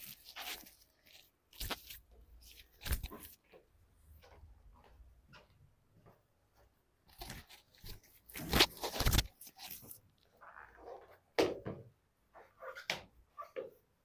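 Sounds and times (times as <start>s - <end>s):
clothing rustling: 0.0s - 11.3s.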